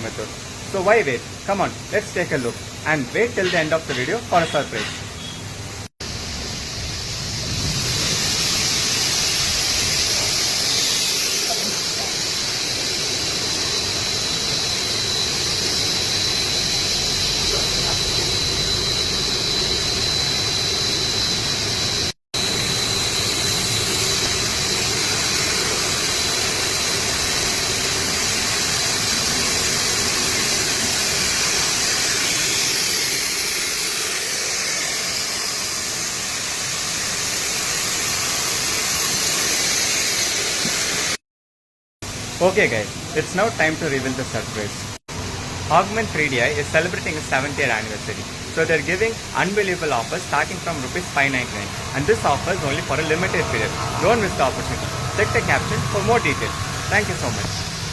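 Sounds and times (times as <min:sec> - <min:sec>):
machinery hiss with high whine: 0:00.0 - 0:41.2, 0:42.0 - 0:57.9.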